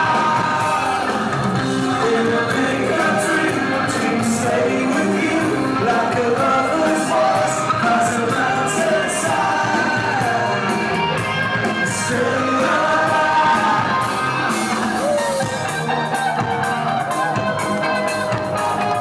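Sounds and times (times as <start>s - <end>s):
person singing lead vocal: 0.0s - 16.0s
live rock band playing: 0.0s - 19.0s.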